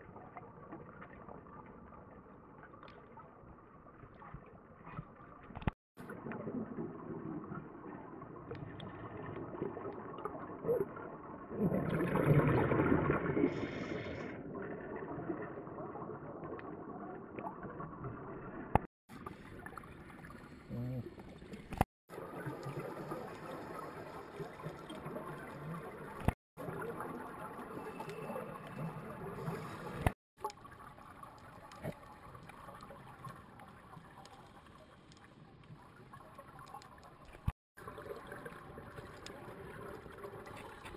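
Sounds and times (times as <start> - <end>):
muffled underwater sound: 0.0 - 40.9
regulator bubbles gurgling: 0.0 - 40.9.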